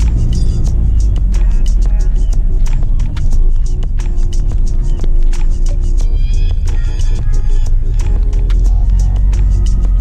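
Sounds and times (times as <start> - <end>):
music with quick beat and heavy bass: 0.0 - 10.0.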